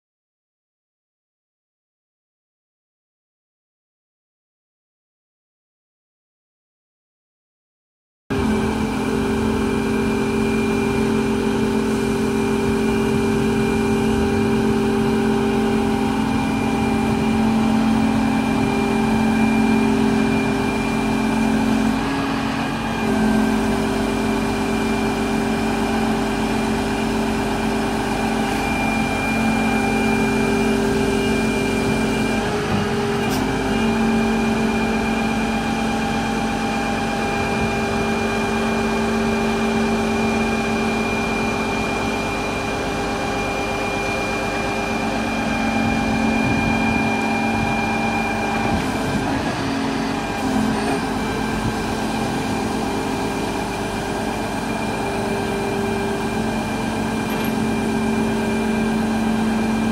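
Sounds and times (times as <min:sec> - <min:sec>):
excavator engine and hydraulics: 0:08.3 - 0:59.9.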